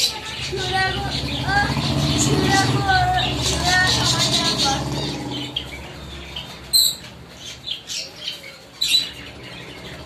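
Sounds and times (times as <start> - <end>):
pet birds chirping and squawking: 0.0 - 10.0.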